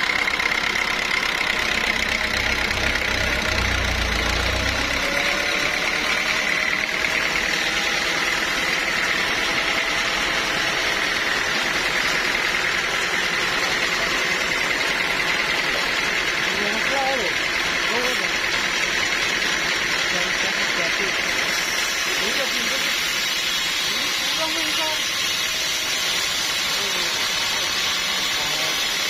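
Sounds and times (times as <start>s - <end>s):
sawmill machinery whine: 0.0s - 29.0s.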